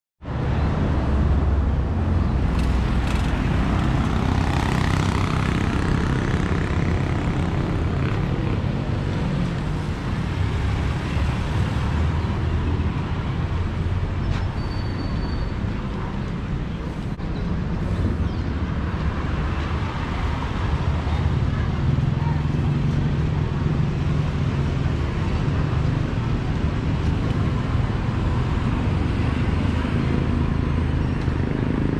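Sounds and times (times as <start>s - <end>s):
road traffic rumbling: 0.2s - 31.9s.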